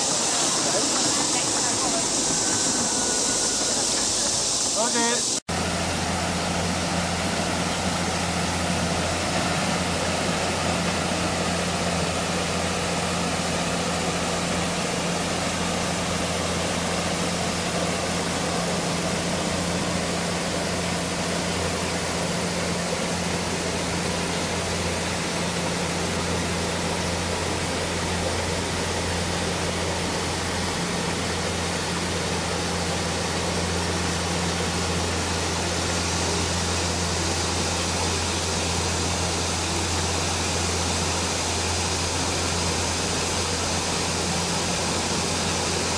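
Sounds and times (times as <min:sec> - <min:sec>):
even hiss: 0:00.0 - 0:45.9.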